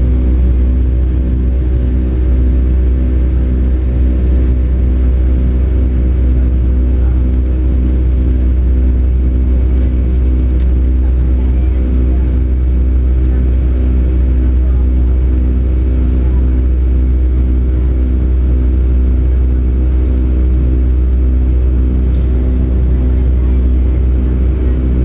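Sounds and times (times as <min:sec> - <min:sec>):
jet engine hum in cabin: 0:00.0 - 0:25.0.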